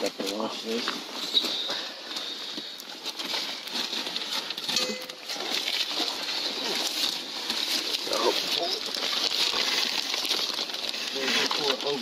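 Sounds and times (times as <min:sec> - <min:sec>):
insulation rustling and scraping: 0:00.0 - 0:12.0.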